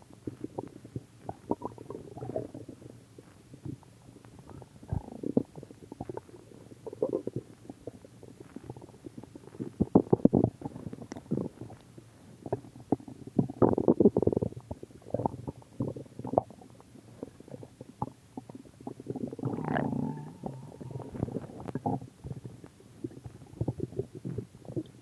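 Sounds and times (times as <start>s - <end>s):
stomach growling: 0.0s - 25.0s.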